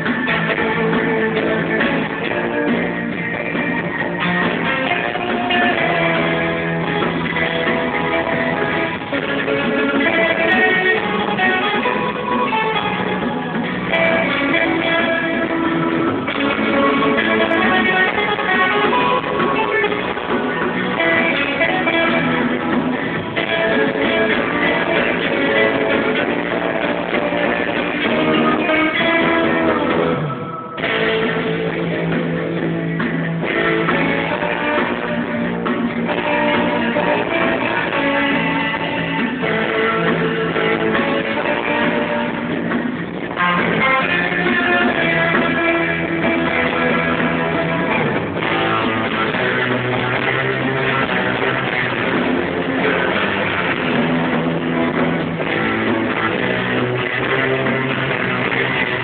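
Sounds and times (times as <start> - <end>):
surf rock band playing: 0.0 - 59.0.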